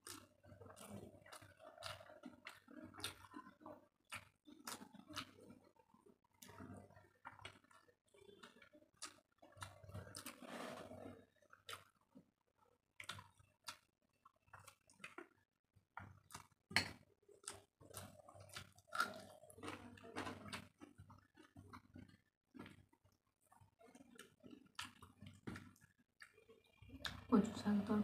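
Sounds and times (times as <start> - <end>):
chewing with mouth clicks: 0.0 - 12.1, 13.0 - 27.2.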